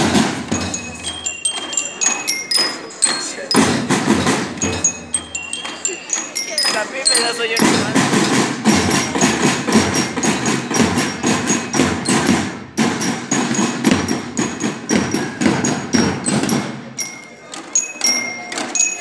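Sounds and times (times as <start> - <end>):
marching drums beating: 0.0 - 17.2.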